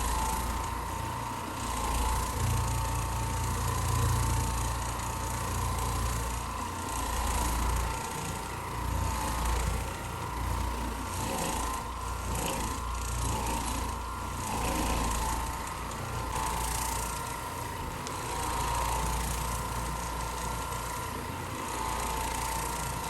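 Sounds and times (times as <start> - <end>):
carpet cleaning machine running: 0.0 - 23.0.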